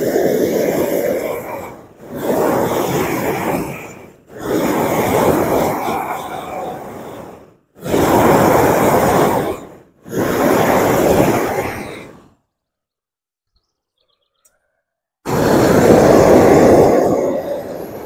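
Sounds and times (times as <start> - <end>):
torch flame rushing: 0.0 - 12.4, 15.3 - 18.0.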